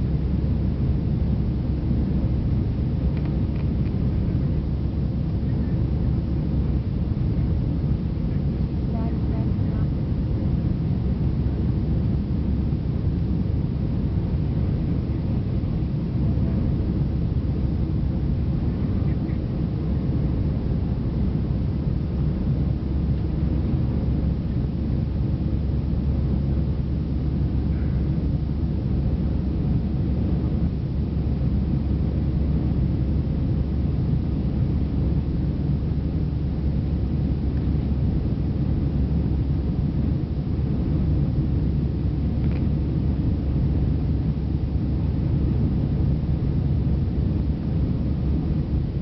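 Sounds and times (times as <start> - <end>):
jet engines rumbling in cabin: 0.0 - 49.0.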